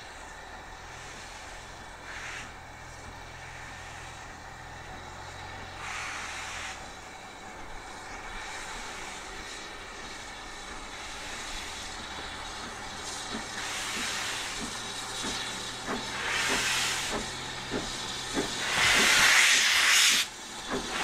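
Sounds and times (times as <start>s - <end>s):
steam hissing: 0.0s - 21.0s.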